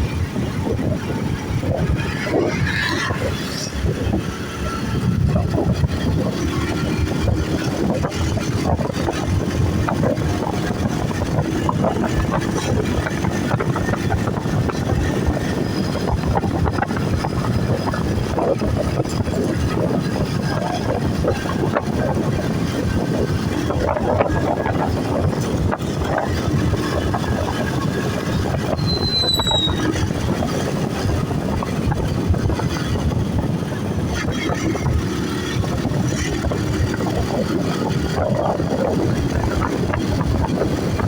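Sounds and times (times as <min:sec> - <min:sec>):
vehicle noise rumbling: 0:00.0 - 0:41.0.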